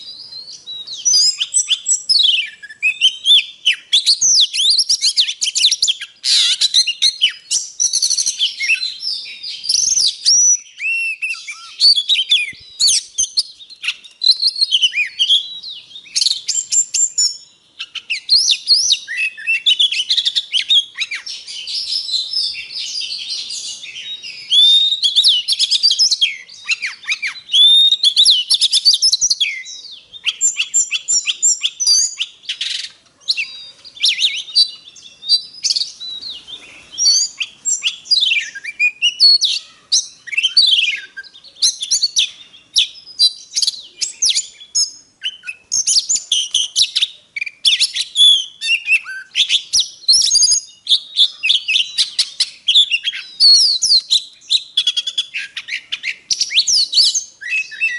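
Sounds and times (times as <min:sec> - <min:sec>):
bird singing varied whistles: 0:00.0 - 0:57.9.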